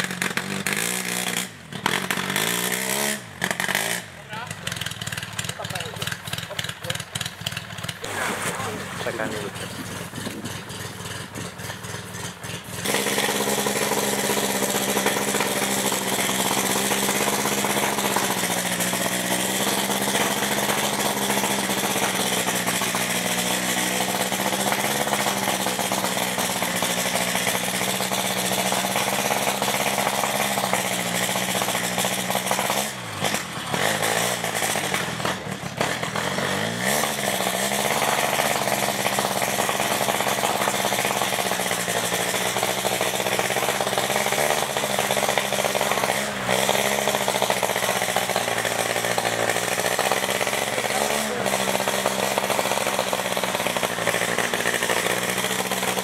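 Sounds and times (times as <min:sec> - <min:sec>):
vehicle motor running hard: 0:00.0 - 0:56.0.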